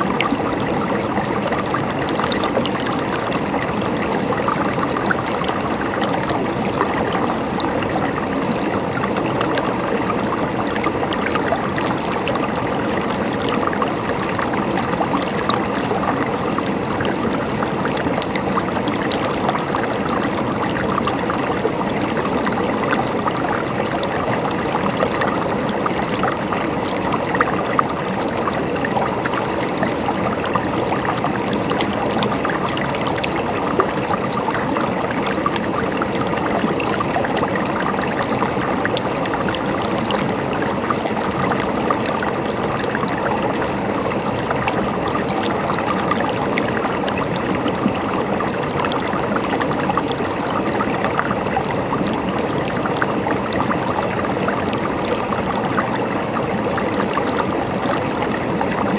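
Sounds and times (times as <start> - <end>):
stream of water trickling: 0.0 - 58.9.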